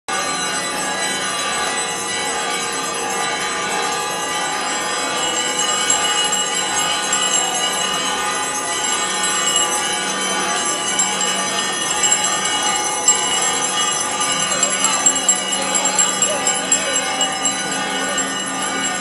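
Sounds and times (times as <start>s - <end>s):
church bells ringing: 0.1s - 19.0s.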